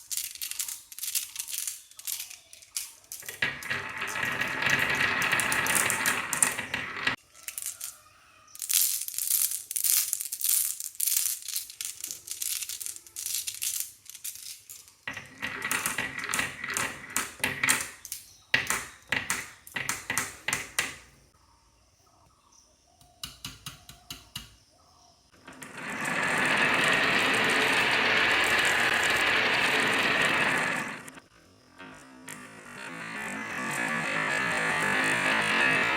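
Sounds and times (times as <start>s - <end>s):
marbles rolling rush: 0.0s - 8.0s, 8.6s - 21.0s, 25.4s - 35.9s
marbles clicking and rattling: 0.0s - 21.1s, 25.4s - 31.2s, 31.8s - 35.9s.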